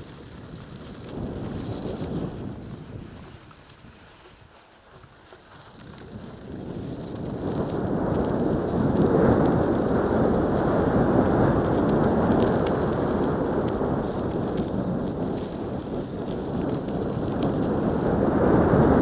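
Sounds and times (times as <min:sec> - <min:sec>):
grit ticks from bike tyres: 0:00.0 - 0:19.0
wind rumbling over microphone: 0:00.0 - 0:19.0.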